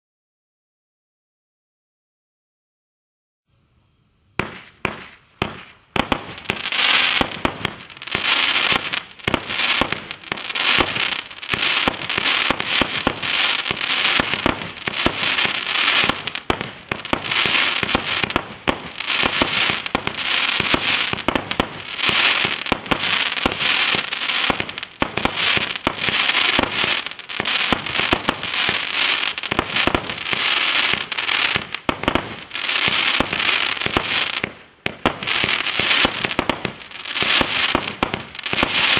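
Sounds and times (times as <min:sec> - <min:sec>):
crackling firework bursts: 0:04.3 - 0:38.9.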